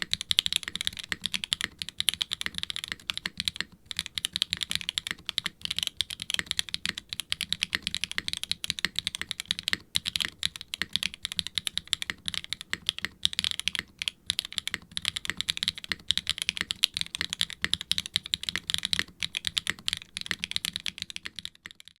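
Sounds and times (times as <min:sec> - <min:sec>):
mechanical keyboard typing: 0:00.0 - 0:22.0.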